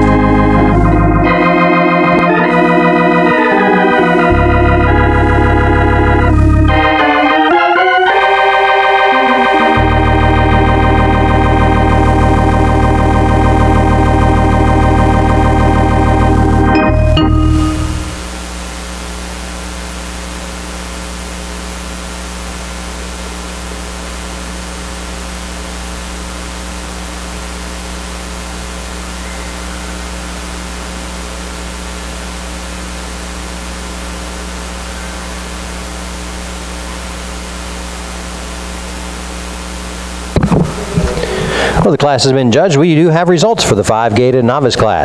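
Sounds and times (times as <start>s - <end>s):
electrical mains hum with hiss: 0.0s - 45.0s.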